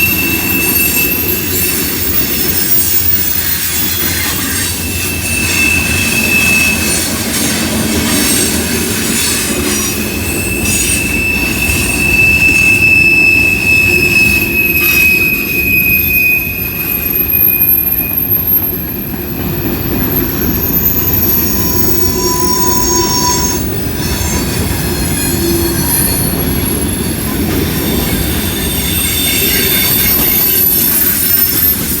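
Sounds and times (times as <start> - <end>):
shrill wheel squeal: 0.0 - 32.0
train wheels rumbling on rail: 0.0 - 32.0.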